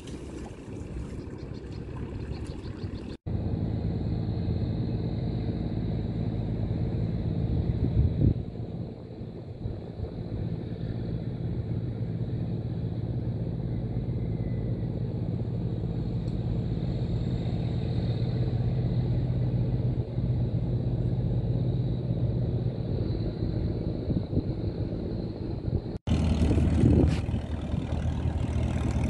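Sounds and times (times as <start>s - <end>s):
small boat engine humming: 0.0s - 29.0s.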